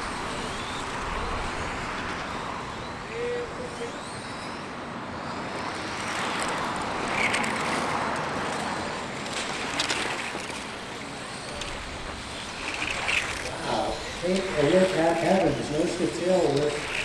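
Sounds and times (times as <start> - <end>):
rc cars motor whine: 0.0 - 17.0.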